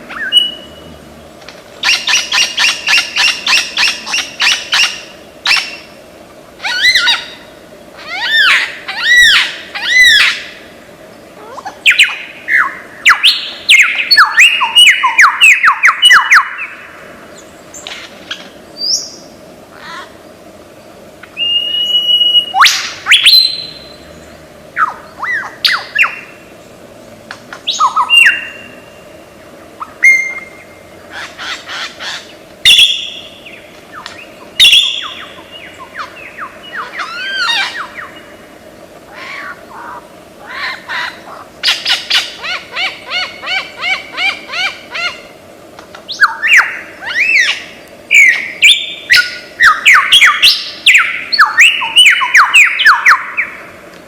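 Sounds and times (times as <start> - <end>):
lyrebird singing: 0.0 - 0.9, 1.8 - 5.9, 6.6 - 20.2, 21.2 - 29.1, 29.8 - 53.7.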